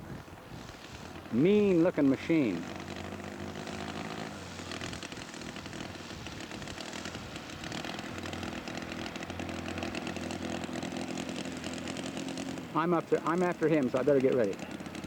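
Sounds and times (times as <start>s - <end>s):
model aircraft engine running: 0.2s - 15.0s.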